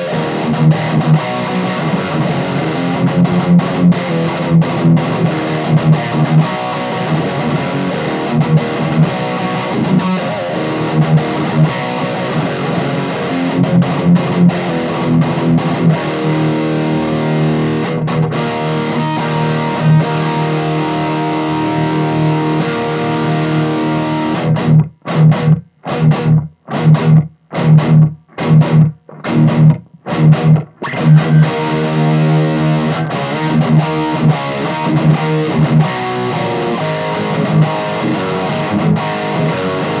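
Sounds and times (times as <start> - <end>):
distorted electric guitar chords: 0.0 - 40.0.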